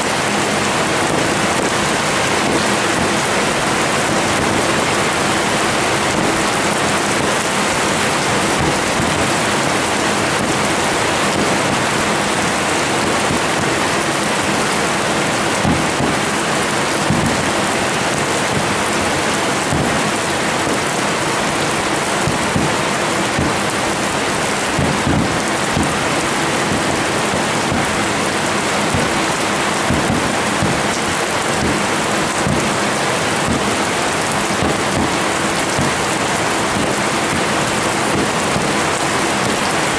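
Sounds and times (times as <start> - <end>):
fireworks booming: 0.0 - 39.9
fireworks crackling: 0.0 - 39.9.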